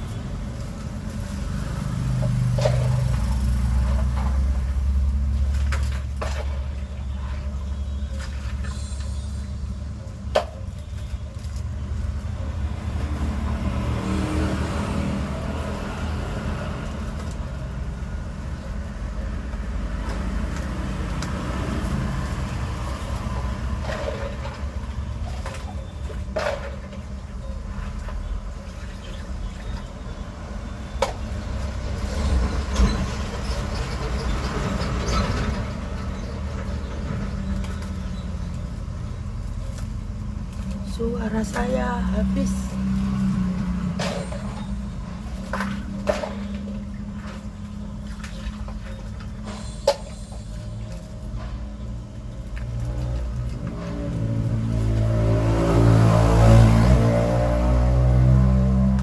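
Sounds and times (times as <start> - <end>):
low rumble of traffic: 0.0 - 59.0.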